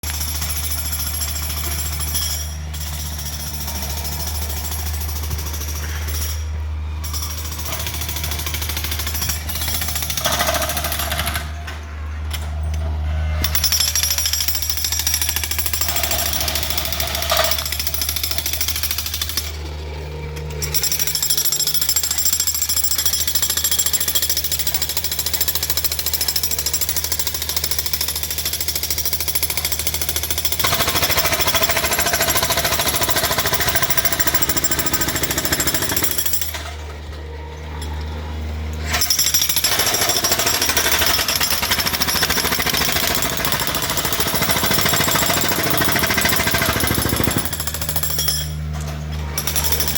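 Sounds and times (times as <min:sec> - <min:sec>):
jackhammer breaking concrete: 0:00.0 - 0:12.5, 0:13.4 - 0:37.1, 0:38.8 - 0:49.9.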